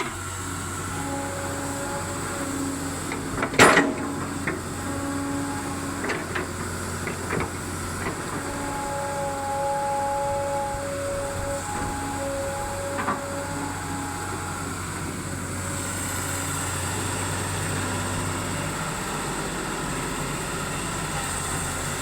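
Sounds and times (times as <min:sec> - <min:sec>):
excavator engine drone: 0:00.0 - 0:22.0
machine whine: 0:00.0 - 0:22.0.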